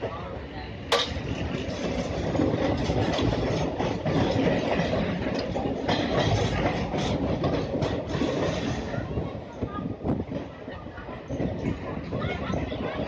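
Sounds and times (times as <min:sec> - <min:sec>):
train wheels rumbling: 0:00.0 - 0:13.0
clacks over rail joints: 0:00.8 - 0:13.0.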